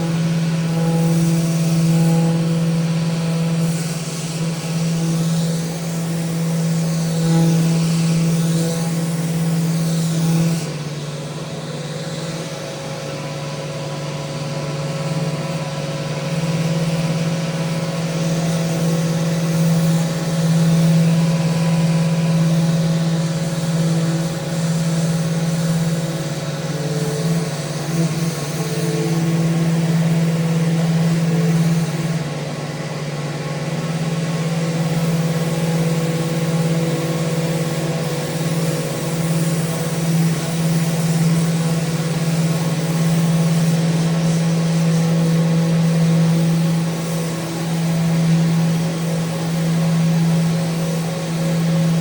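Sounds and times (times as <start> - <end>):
electric sander motor hum: 0.0 - 52.0
sander rasping on wood: 0.0 - 52.0.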